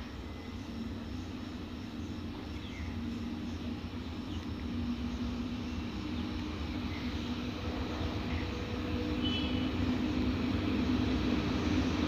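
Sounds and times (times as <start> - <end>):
electric locomotive hum and rumble: 0.0 - 12.0.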